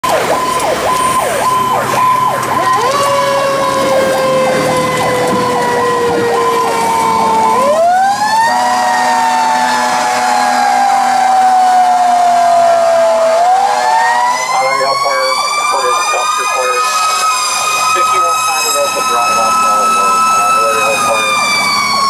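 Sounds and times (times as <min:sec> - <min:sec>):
electronic siren sweeping: 0:00.0 - 0:22.0.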